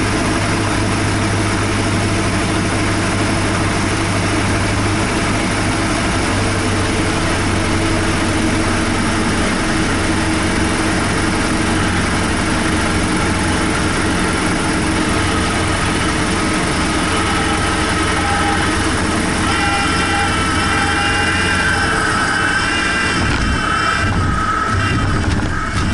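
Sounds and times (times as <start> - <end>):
propeller plane engine drone: 0.0 - 25.9.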